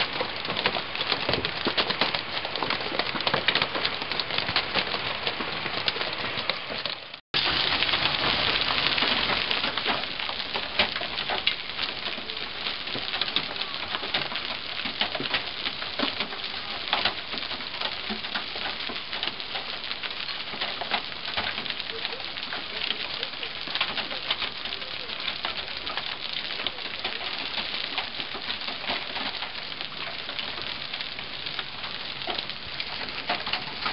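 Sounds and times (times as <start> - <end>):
hail clattering: 0.0 - 33.9.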